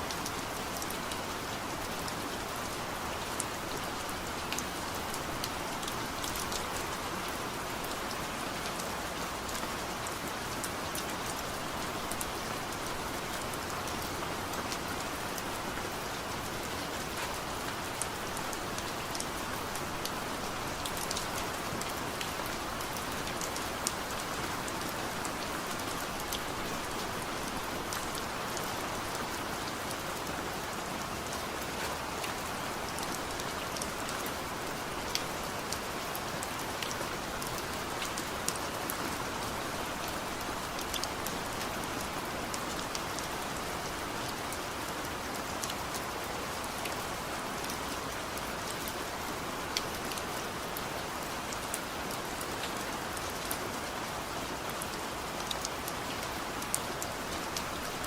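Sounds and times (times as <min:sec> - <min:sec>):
water drips and patters: 0:00.0 - 0:58.0.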